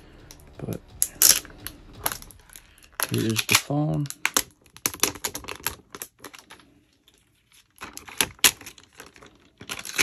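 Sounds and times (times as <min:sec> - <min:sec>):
packaging crinkling and rustling: 0:01.2 - 0:10.0.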